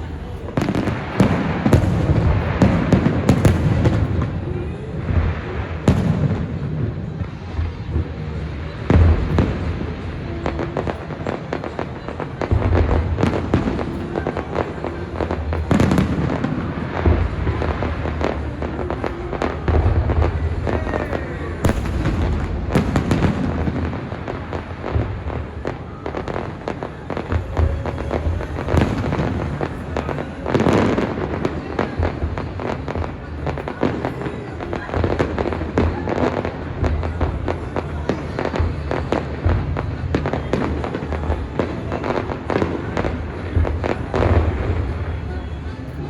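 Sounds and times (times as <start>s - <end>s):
fireworks bursting and crackling: 0.0s - 46.0s.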